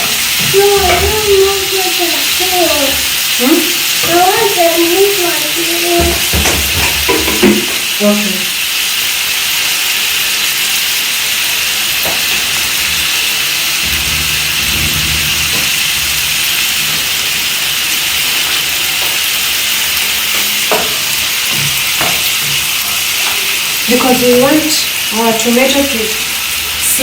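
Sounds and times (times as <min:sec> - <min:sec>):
liver sizzling in a pan: 0:00.0 - 0:27.0.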